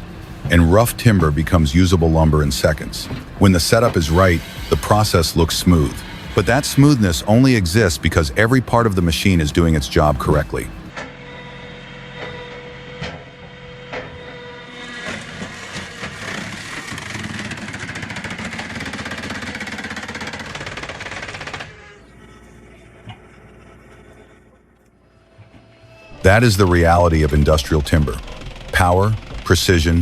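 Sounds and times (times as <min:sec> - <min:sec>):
circular saw whining: 0:00.0 - 0:30.0
saw rasping through log: 0:01.9 - 0:30.0.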